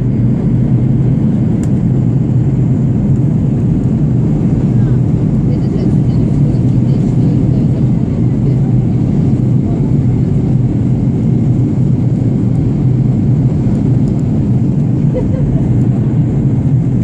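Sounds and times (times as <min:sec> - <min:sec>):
airplane engines droning: 0:00.0 - 0:17.0.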